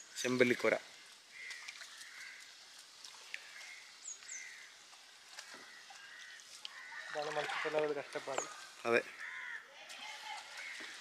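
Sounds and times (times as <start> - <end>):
faint bird calls: 0.0 - 11.0
water dripping and trickling: 0.0 - 11.0.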